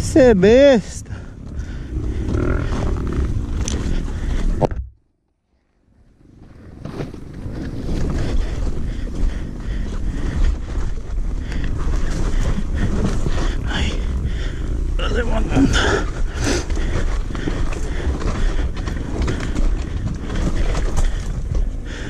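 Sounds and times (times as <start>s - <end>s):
dirt bike engine rumble: 0.0s - 5.0s, 5.9s - 22.0s.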